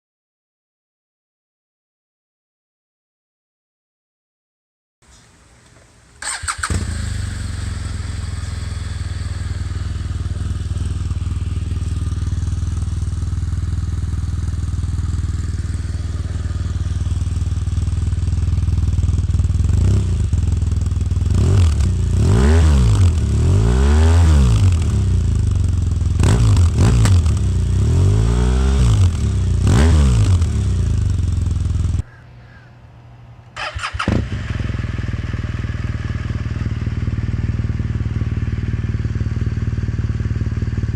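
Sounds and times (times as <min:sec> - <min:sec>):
motorcycle engine starting and revving: 0:06.2 - 0:32.0, 0:33.5 - 0:40.9.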